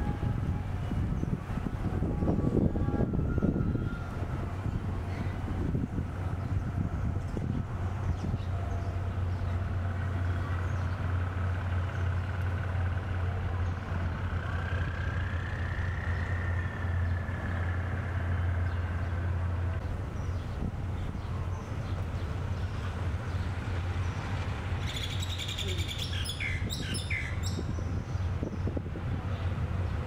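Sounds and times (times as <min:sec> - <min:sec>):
diesel engines droning: 0:00.0 - 0:30.0.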